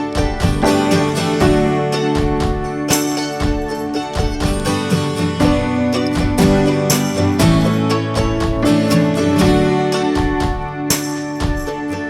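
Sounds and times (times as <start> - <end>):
plucked and strummed string tune: 0.0 - 12.0.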